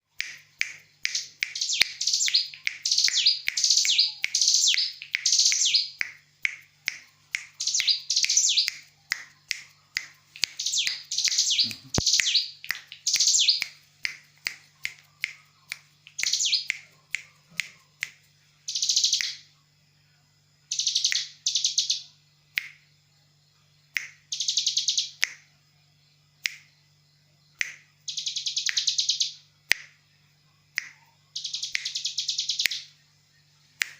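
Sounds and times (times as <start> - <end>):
bird high chirps: 0.2 - 19.6, 20.7 - 22.8, 23.9 - 25.5, 27.5 - 30.0, 30.7 - 33.0.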